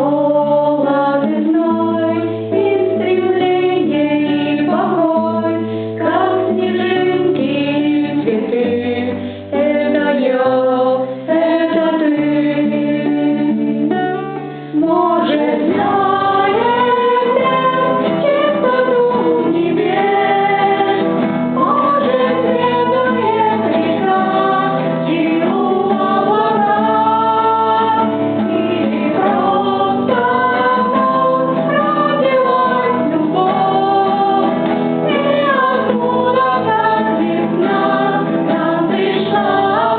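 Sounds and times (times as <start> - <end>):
woman singing: 0.0 - 14.2, 14.8 - 39.9.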